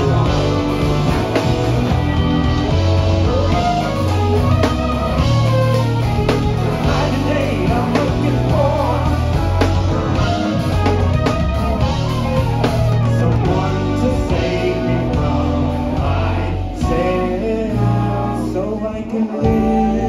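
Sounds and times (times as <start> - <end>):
drum kit: 0.0 - 20.0
electric bass: 0.0 - 20.0
electric guitars: 0.0 - 20.0
keyboard: 0.0 - 20.0.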